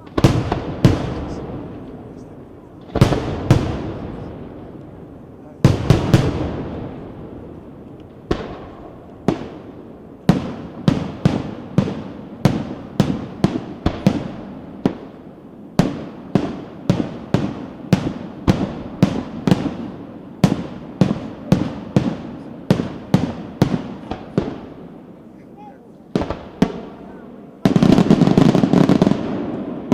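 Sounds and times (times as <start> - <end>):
fireworks bursting with bangs: 0.0 - 29.9.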